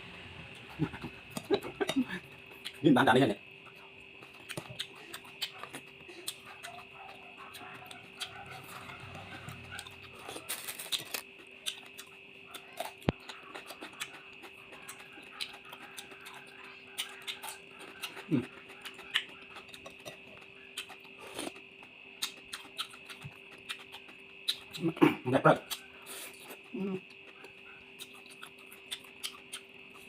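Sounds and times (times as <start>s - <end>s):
faint steady hum: 0.0s - 30.0s
person chewing: 0.6s - 2.8s, 3.7s - 21.6s, 22.2s - 24.9s, 25.7s - 30.0s.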